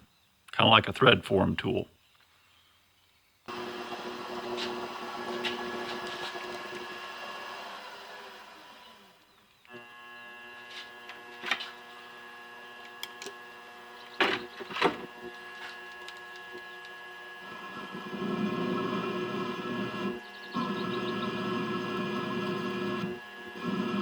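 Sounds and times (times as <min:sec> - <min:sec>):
lathe tool cutting metal: 0:03.5 - 0:24.0
metal lathe whining hum: 0:03.5 - 0:24.0.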